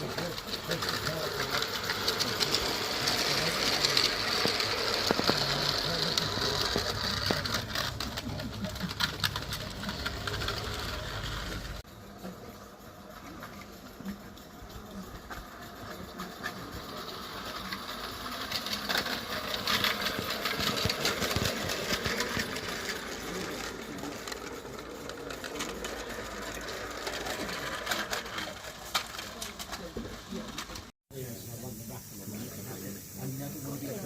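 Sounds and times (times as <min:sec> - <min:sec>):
model locomotive clatter: 0:00.0 - 0:34.0.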